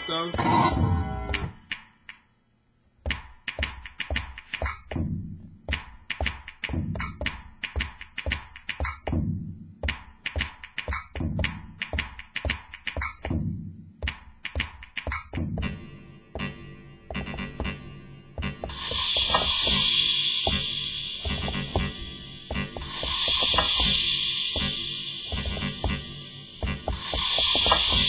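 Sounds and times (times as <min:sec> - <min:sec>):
drum samples knocks and clanks: 0:03.1 - 0:15.8, 0:16.4 - 0:17.8, 0:18.4 - 0:28.0.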